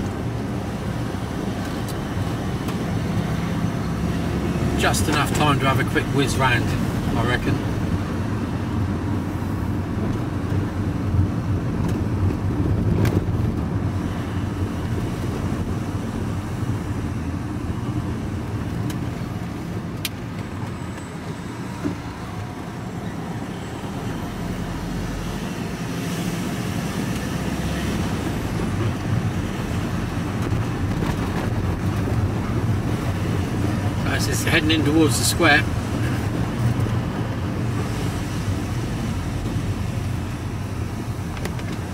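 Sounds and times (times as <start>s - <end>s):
vehicle engine and tyre noise: 0.0s - 41.9s.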